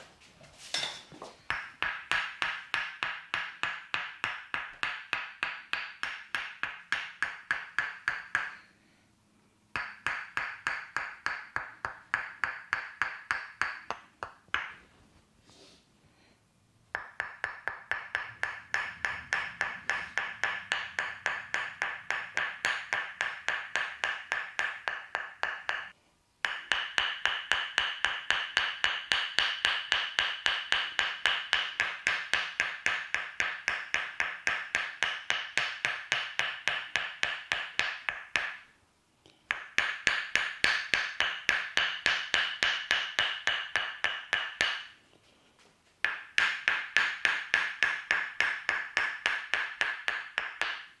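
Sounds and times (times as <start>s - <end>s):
wooden mallet tapping wooden wedge: 1.4s - 8.7s, 9.7s - 14.8s, 16.9s - 45.0s, 46.0s - 51.0s.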